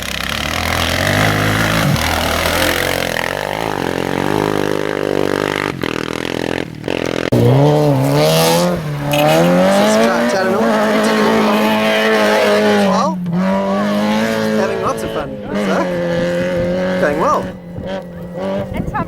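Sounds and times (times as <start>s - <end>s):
loud engine accelerating: 0.0s - 19.0s
rally car engines revving: 0.0s - 19.0s.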